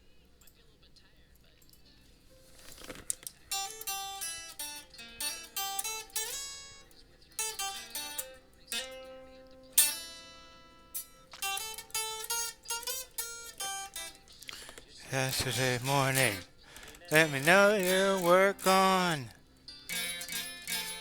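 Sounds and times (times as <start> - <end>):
acoustic guitar plucked notes: 3.5 - 21.0.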